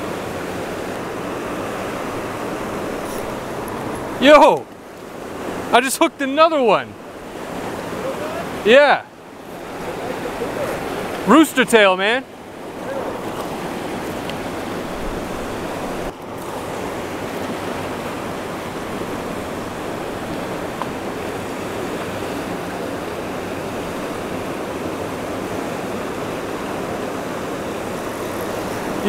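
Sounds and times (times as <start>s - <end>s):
river rushing over rapids: 0.0s - 29.0s.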